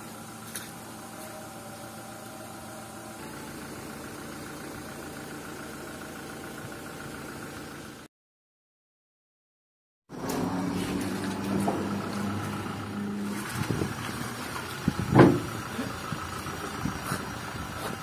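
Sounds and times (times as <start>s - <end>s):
pickup engine idling: 0.0s - 8.1s, 10.6s - 18.0s.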